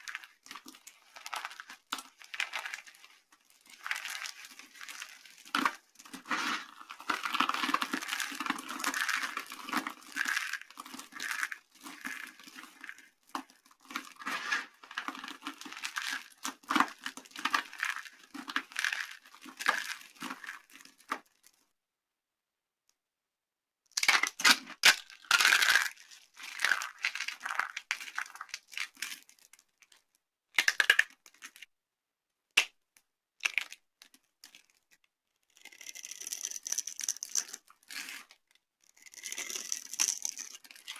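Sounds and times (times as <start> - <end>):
dry soap crunching and crackling: 0.0 - 21.6, 24.0 - 31.7, 33.4 - 40.9.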